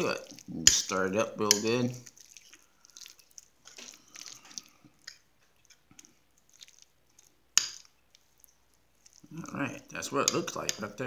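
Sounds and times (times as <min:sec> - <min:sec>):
wet squishing and scraping in bowl: 0:00.0 - 0:11.0.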